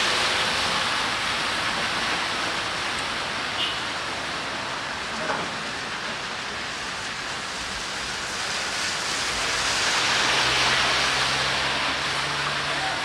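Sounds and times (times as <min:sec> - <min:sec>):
rain hiss on street: 0:00.0 - 0:13.0
vehicle passing on wet road: 0:00.0 - 0:13.0.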